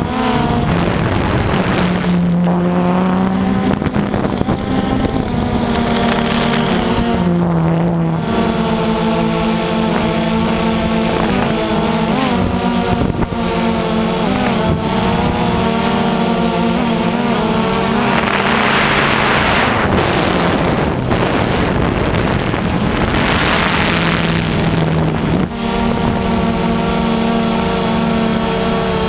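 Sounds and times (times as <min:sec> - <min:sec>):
drone motors whining: 0:00.0 - 0:29.0
wind noise on microphone: 0:00.0 - 0:29.0.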